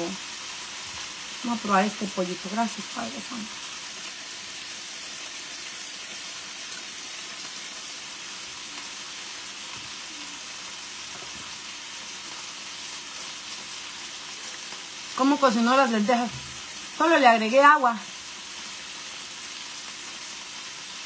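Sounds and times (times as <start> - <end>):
chicken frying in oil: 0.0 - 21.0.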